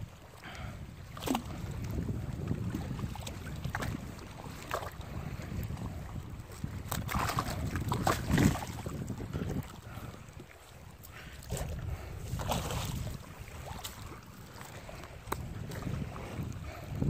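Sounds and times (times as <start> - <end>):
wind rumbling on microphone: 0.0 - 17.0
water splashing: 0.4 - 17.0.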